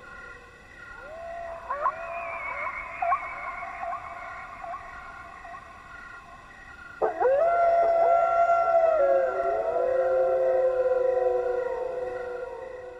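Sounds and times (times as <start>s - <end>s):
wild canids howling: 0.1s - 12.9s.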